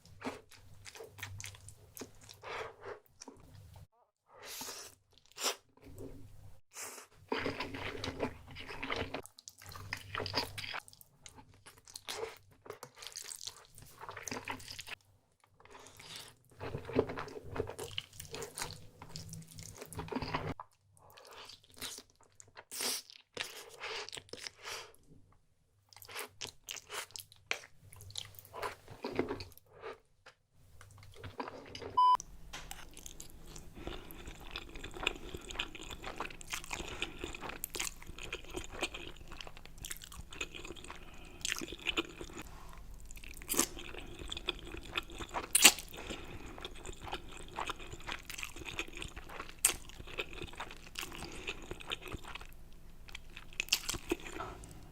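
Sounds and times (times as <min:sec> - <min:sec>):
person chewing crunchy food: 0:00.0 - 0:03.9, 0:06.8 - 0:25.0, 0:25.9 - 0:30.1, 0:30.8 - 0:54.9.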